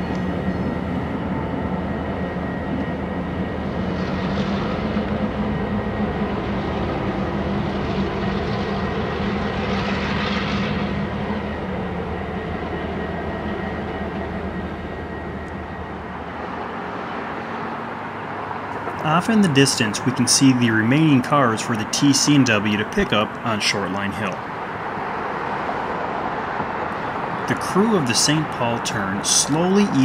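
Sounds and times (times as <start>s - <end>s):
diesel locomotives running: 0.0s - 30.0s.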